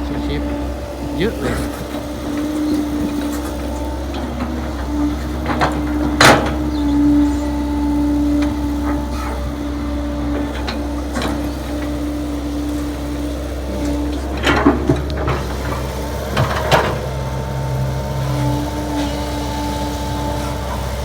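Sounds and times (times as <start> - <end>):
excavator engine humming: 0.0 - 21.0.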